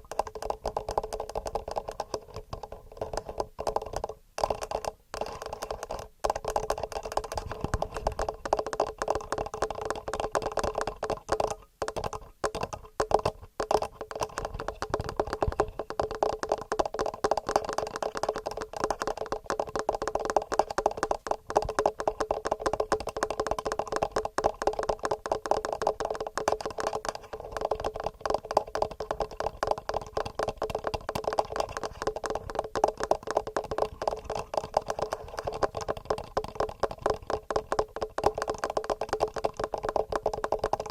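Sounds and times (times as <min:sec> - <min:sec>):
fingernail tapping on recorder: 0:00.0 - 0:40.9.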